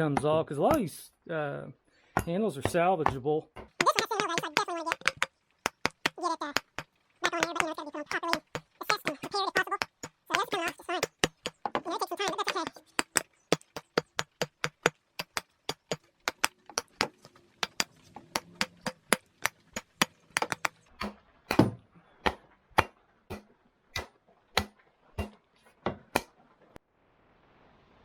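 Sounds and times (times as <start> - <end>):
mallet striking wooden handle: 2.2 - 25.4.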